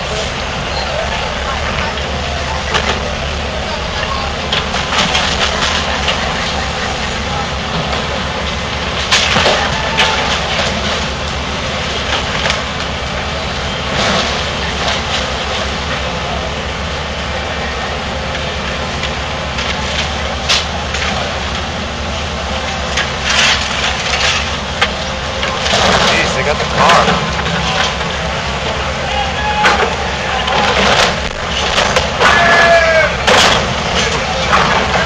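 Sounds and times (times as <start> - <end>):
excavator diesel engine under load: 0.0 - 35.0
wood and debris cracking and crashing: 1.1 - 17.2, 18.2 - 35.0.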